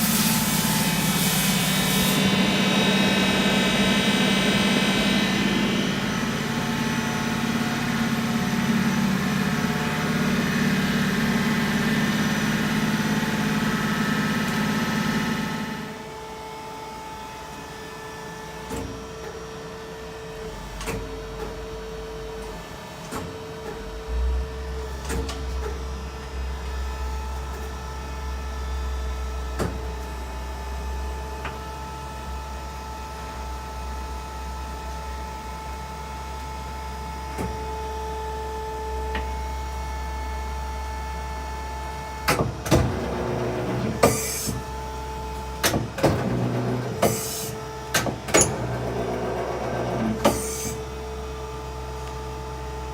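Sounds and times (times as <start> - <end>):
machine hum with whine: 0.0 - 52.9.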